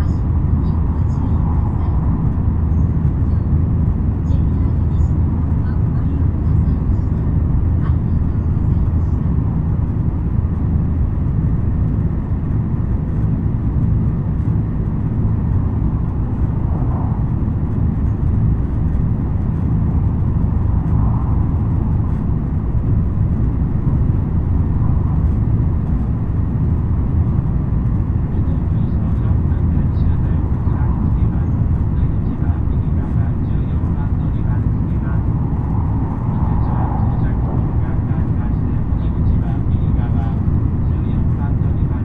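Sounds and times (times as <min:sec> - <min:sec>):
train running noise inside carriage: 0:00.0 - 0:42.0.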